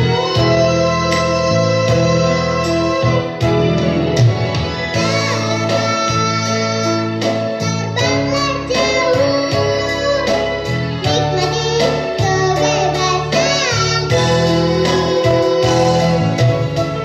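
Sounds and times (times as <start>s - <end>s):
child singing: 0.0s - 3.3s, 5.0s - 16.4s
instrumental accompaniment: 0.0s - 17.0s.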